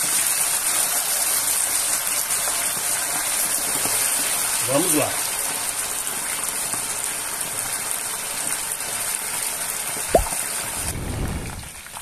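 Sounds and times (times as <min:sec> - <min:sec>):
chicken deep-frying sizzle: 0:00.0 - 0:12.0.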